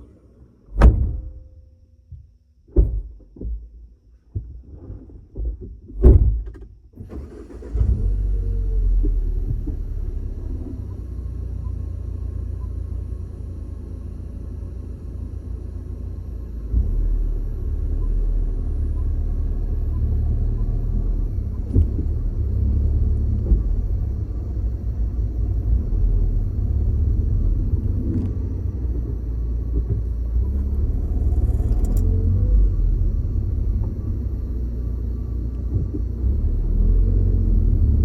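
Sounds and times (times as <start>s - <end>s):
car engine low rumble: 0.0s - 38.0s.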